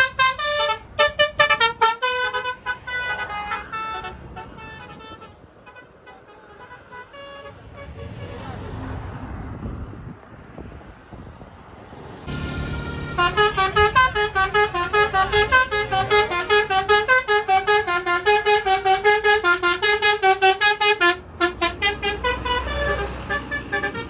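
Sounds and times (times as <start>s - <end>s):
musical bus horn tune: 0.0s - 8.3s, 12.3s - 24.0s.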